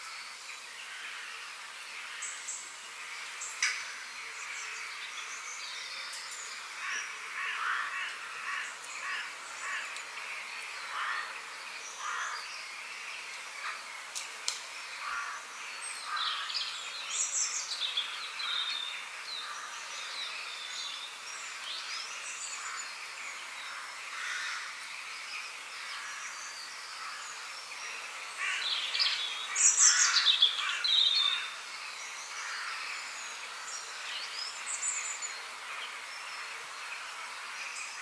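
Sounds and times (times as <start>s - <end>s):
birds calling and chirping: 0.0s - 38.0s
steady background hiss: 0.0s - 38.0s.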